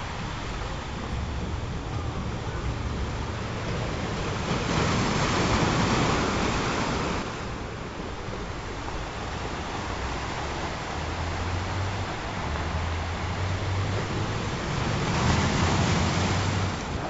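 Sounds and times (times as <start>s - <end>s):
waves breaking: 0.0s - 17.0s.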